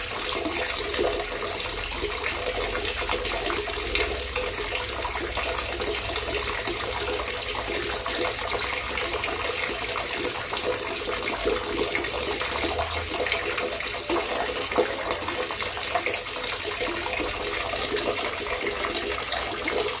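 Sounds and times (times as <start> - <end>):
running water gurgling: 0.0 - 20.0.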